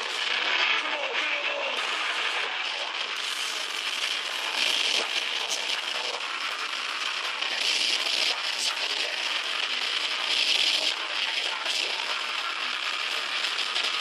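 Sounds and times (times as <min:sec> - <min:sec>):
distorted guitars: 0:00.0 - 0:14.0.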